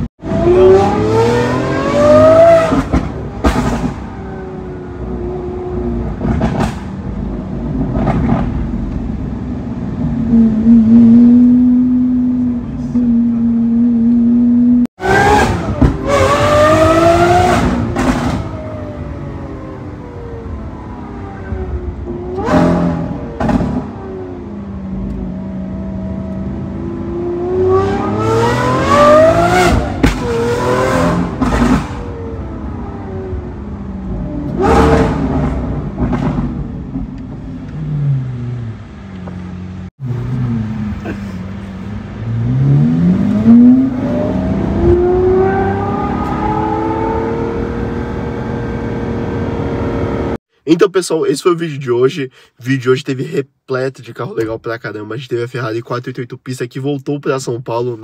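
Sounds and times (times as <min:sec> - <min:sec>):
car engine revving and accelerating: 0:00.2 - 0:50.4.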